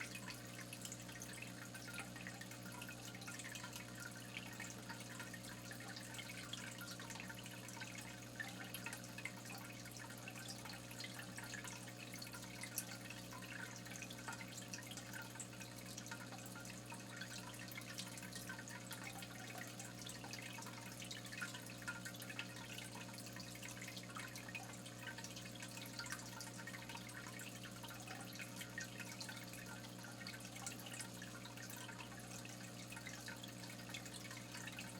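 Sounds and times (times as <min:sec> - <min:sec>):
water dripping and trickling: 0:00.0 - 0:34.9.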